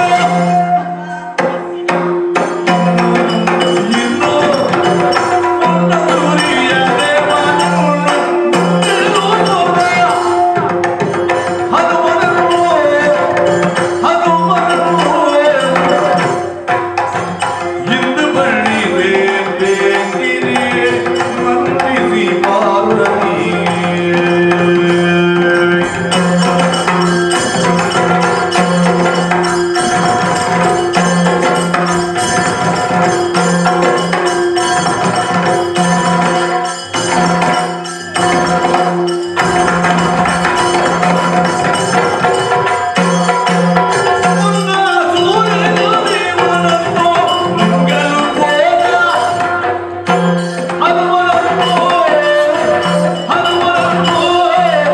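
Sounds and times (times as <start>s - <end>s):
drums playing a rhythm: 0.0s - 54.9s.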